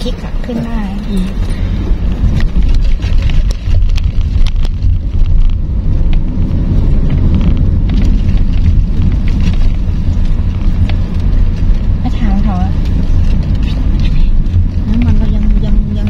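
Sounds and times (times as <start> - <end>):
low rumble of tyres and engine: 0.0 - 16.0.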